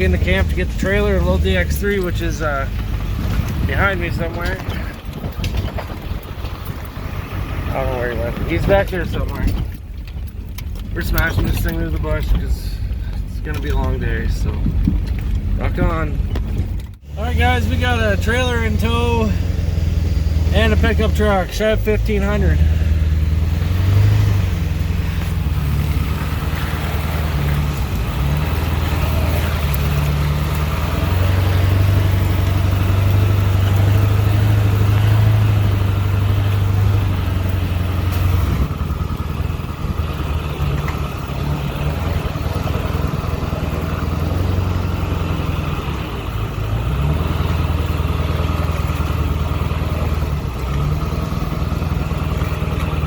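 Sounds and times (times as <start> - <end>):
truck engine labouring: 0.0 - 53.0.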